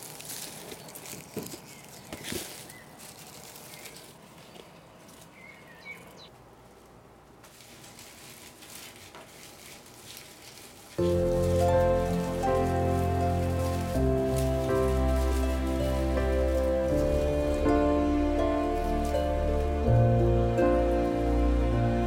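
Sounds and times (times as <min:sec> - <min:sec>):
sharp crackles: 0:00.0 - 0:05.4, 0:06.8 - 0:19.8
dry onion skins rustling: 0:00.0 - 0:22.0.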